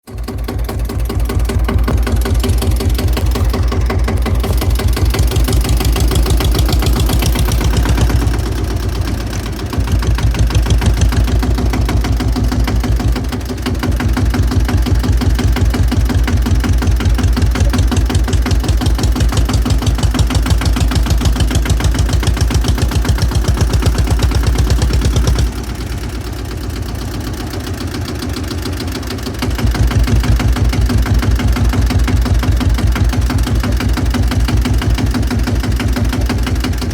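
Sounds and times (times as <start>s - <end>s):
tractor diesel engine chugging: 0.0s - 36.9s.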